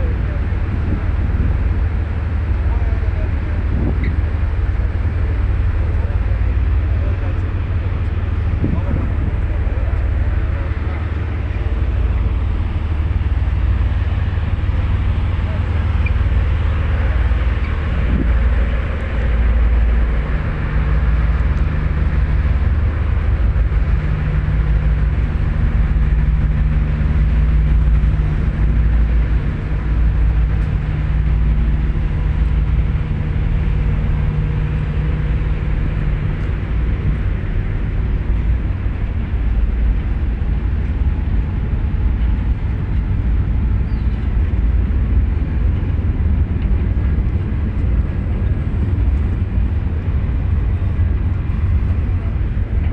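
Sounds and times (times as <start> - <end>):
held hum: 0.0 - 52.9
low engine drone: 0.0 - 52.9.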